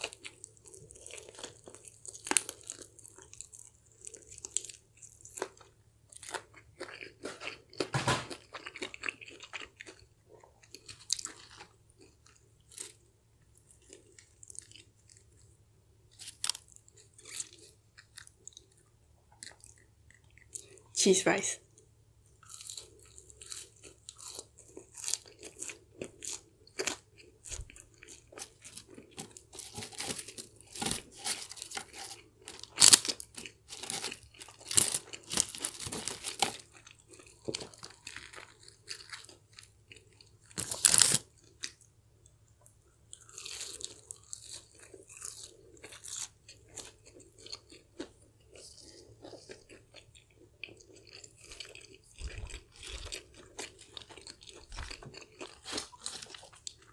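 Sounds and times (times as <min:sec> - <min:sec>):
crisp crunching and wet chewing: 0:00.0 - 0:20.9, 0:21.7 - 0:56.9.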